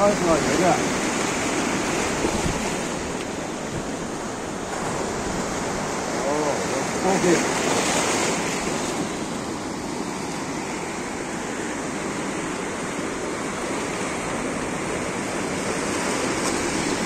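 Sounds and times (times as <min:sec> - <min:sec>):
waves washing over rocks: 0:00.0 - 0:17.0.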